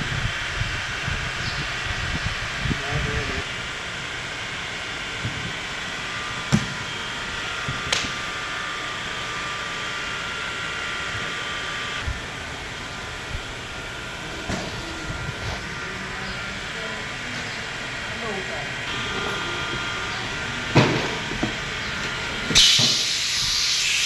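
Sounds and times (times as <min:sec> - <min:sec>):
fan hum with faint tones: 0:00.0 - 0:22.7.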